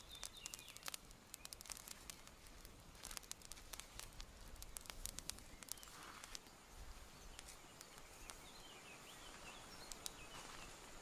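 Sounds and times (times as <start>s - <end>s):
faint crackling of grass fire: 0.0s - 11.0s
small bird chirping: 0.0s - 11.0s.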